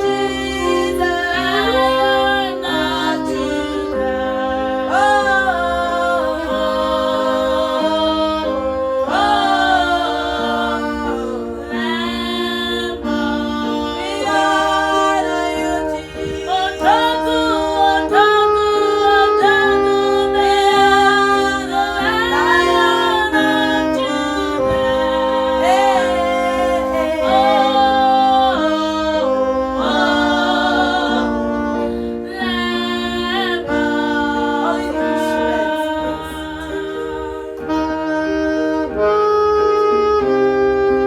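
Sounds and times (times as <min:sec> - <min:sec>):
person singing gospel song: 0:00.0 - 0:39.2
sustained keyboard chords: 0:00.0 - 0:41.0.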